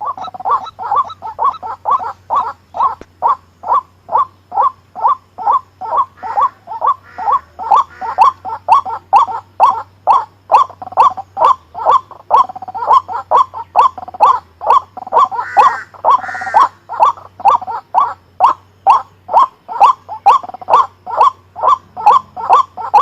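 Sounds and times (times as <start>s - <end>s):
bird calling sharp notes: 0.0s - 23.0s
richer bird call: 0.0s - 23.0s.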